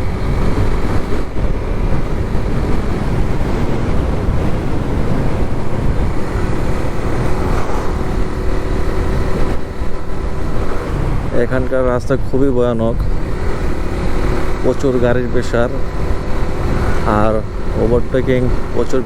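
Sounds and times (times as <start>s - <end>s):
motorcycle engine: 0.0s - 19.0s
wind rushing over microphone: 0.0s - 19.0s.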